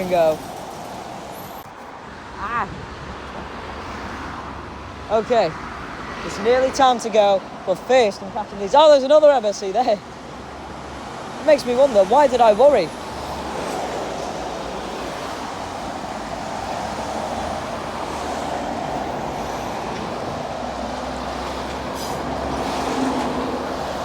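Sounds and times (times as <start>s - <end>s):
tyres hissing on road: 0.0s - 2.4s, 3.0s - 8.8s, 9.4s - 24.0s.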